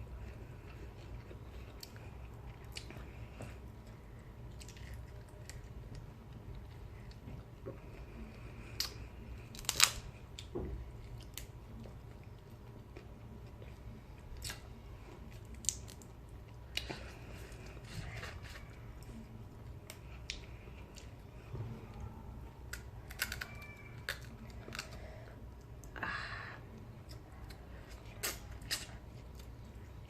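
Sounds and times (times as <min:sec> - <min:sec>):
quiet chewing: 0:00.0 - 0:26.0.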